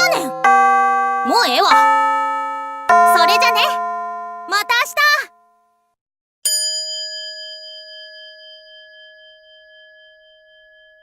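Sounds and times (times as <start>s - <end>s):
metal chime ringing: 0.0s - 5.6s, 6.5s - 11.0s.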